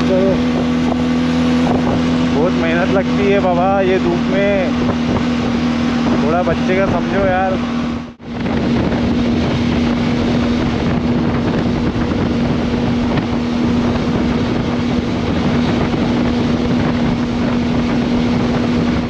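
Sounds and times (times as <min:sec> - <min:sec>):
motorcycle engine hum: 0:00.0 - 0:19.0
wind rushing over microphone: 0:00.0 - 0:19.0.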